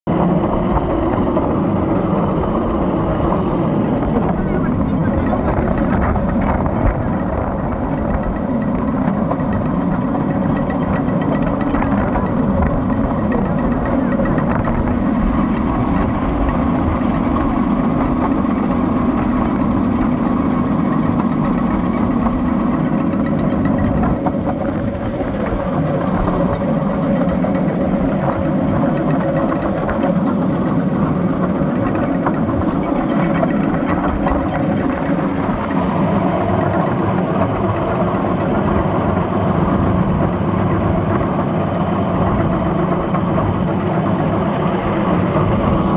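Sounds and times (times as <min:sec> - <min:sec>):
railcart engine running: 0:00.1 - 0:45.9.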